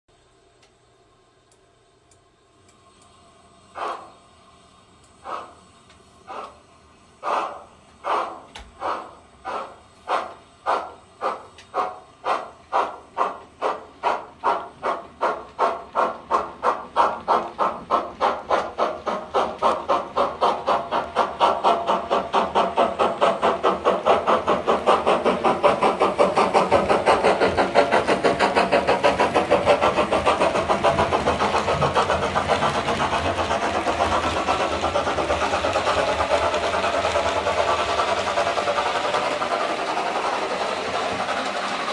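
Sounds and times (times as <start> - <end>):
model steam locomotive chuffing: 3.3 - 41.9.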